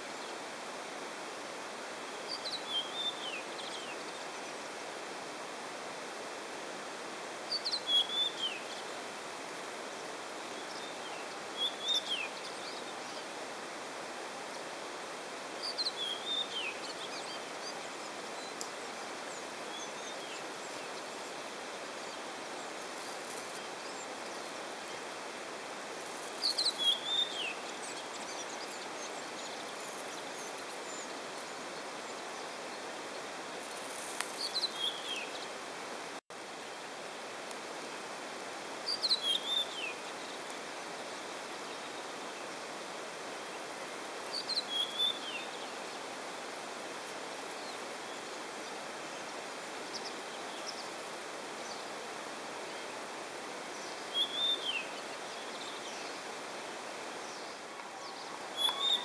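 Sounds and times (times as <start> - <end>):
steady outdoor hiss: 0.0 - 59.0
songbird singing: 2.1 - 4.6, 7.5 - 9.1, 10.2 - 13.7, 15.3 - 35.6, 36.4 - 59.0.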